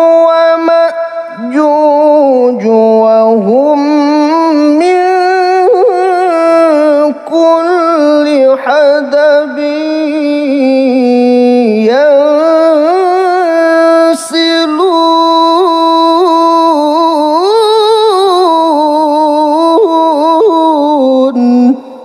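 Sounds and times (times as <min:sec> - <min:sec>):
man reciting melodically: 0:00.0 - 0:22.0.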